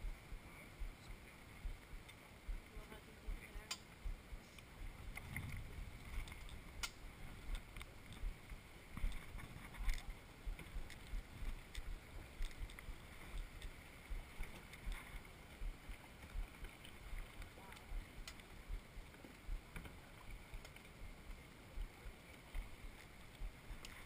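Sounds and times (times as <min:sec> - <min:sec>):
water lapping: 0:00.0 - 0:24.0.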